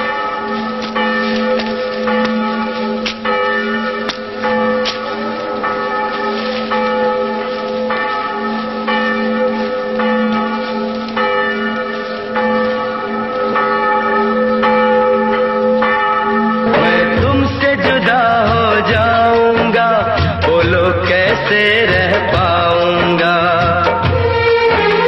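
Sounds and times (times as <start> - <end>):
large bell tolling: 0.0 - 25.0.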